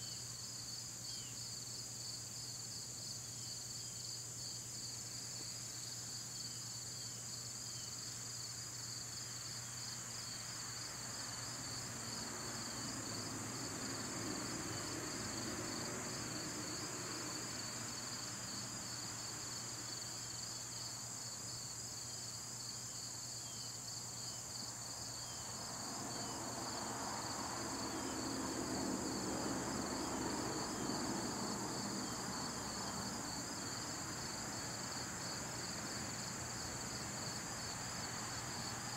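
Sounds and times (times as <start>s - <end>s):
high-pitched insect trill: 0.0s - 38.9s
lower pulsing insect trill: 0.0s - 38.9s.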